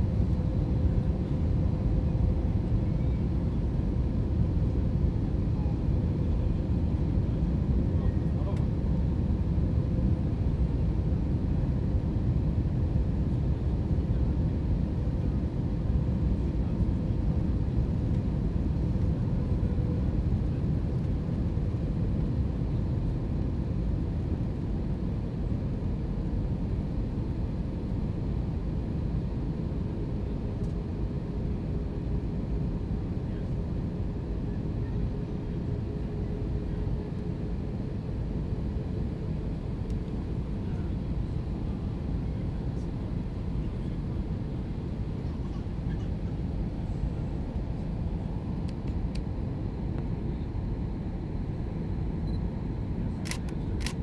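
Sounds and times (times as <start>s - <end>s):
airliner cabin rumble: 0.0s - 54.0s
faint steady hum: 0.0s - 54.0s.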